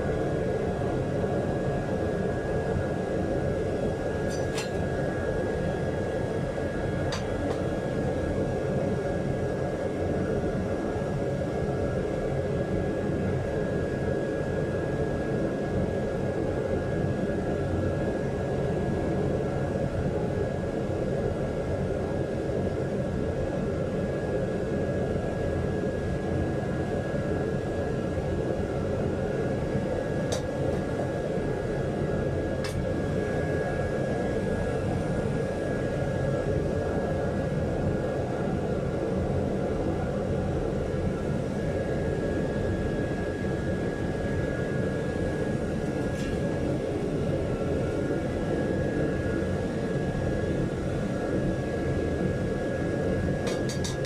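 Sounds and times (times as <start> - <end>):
faint steady whine: 0.0 - 54.0.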